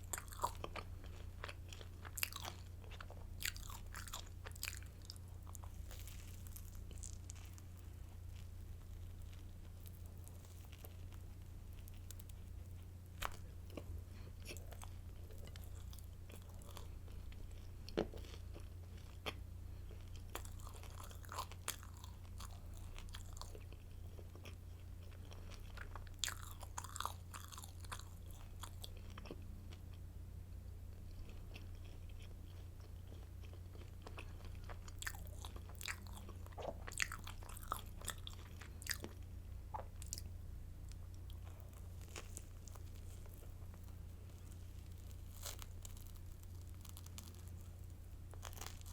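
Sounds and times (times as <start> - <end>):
chewing crunchy bread: 0.0 - 30.0, 30.9 - 48.9.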